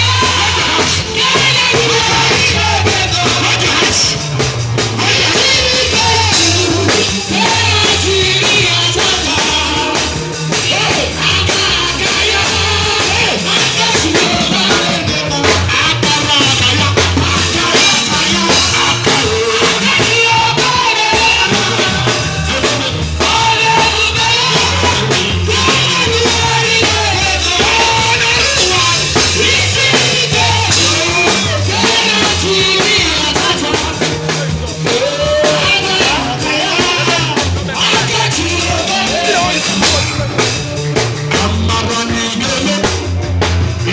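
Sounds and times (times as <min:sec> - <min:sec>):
drum kit: 0:00.0 - 0:43.9
person singing: 0:00.0 - 0:43.9
pulsing bass line: 0:00.0 - 0:43.9.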